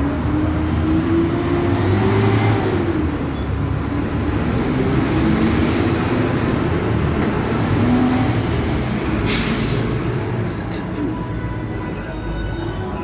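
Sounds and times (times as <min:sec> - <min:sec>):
bus engine rumbling with whine: 0:00.0 - 0:13.0.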